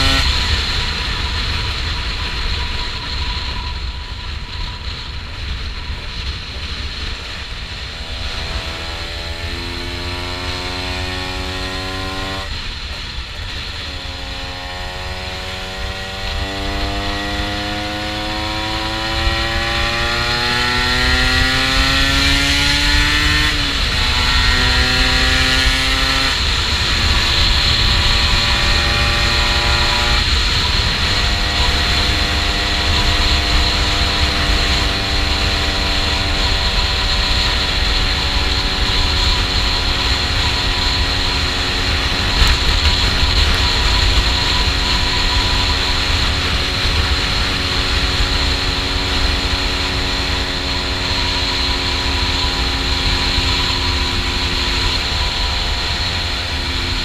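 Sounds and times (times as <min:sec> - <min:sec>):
two-stroke motorcycle engine accelerating: 0:00.0 - 0:57.0
wind rumble on microphone: 0:00.0 - 0:57.0.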